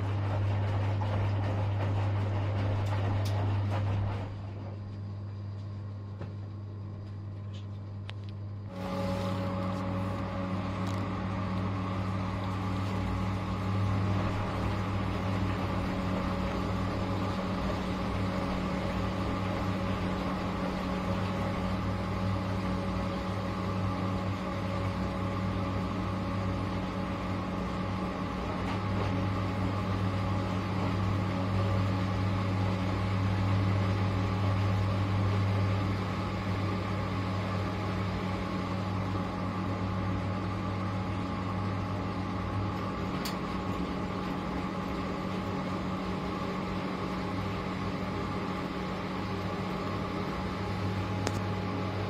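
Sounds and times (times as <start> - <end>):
washing machine motor humming: 0.0 - 52.0.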